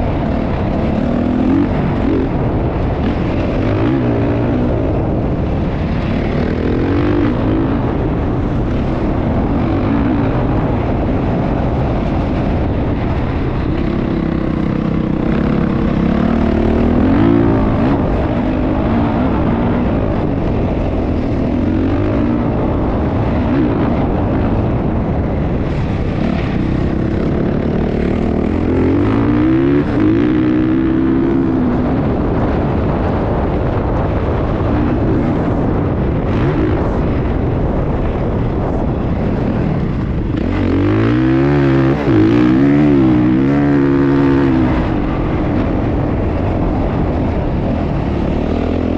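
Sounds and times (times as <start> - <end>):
dirt bike engine revving: 0.0 - 48.9
low rush of noise: 0.0 - 48.9.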